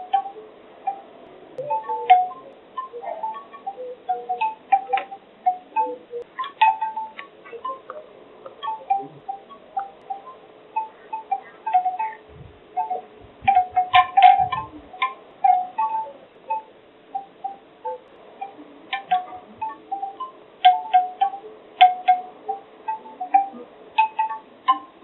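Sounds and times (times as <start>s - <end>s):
bamboo wind chimes clacking: 0.0s - 25.0s
faint steady hum: 0.0s - 25.0s.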